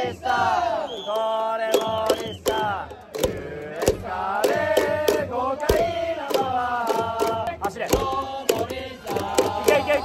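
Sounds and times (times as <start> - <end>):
crowd singing in unison: 0.0 - 10.0
sharp rhythmic beats: 0.0 - 10.0.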